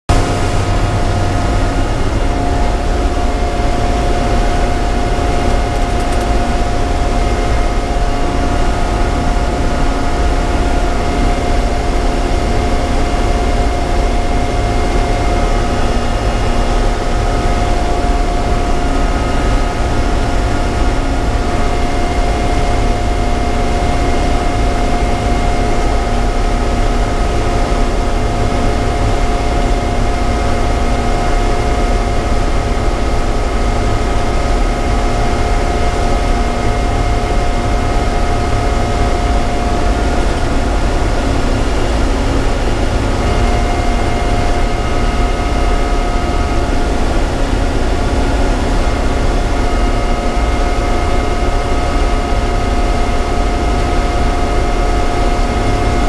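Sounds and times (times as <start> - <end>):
heavy machinery drone: 0.1 - 56.0.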